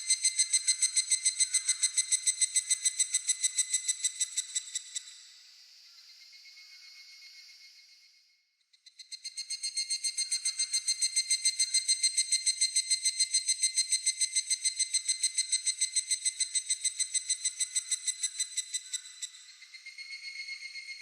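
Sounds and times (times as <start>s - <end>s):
cicada ringing call: 0.0s - 5.3s, 8.9s - 21.0s.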